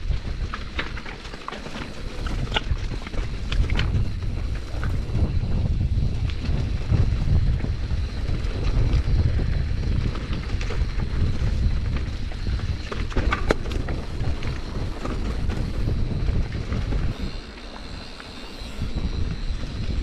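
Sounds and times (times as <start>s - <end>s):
bike rattles and knocks: 0.0s - 17.8s
wind buffeting microphone: 0.0s - 20.0s.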